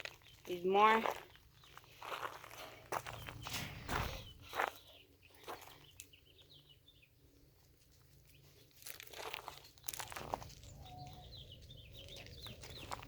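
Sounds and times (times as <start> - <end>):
faint crunching steps: 0.0 - 6.6, 7.3 - 13.0
small birds chirping: 0.0 - 13.0.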